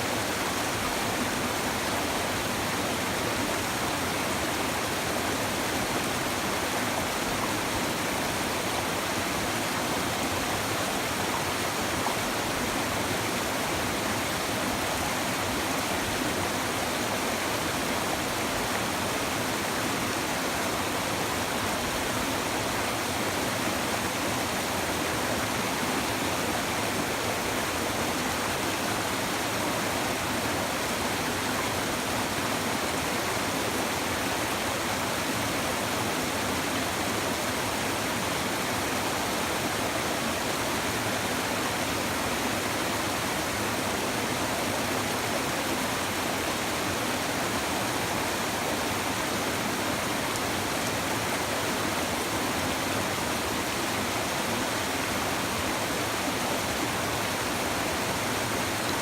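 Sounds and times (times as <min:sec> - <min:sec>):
river rushing over stones: 0:00.0 - 0:59.0.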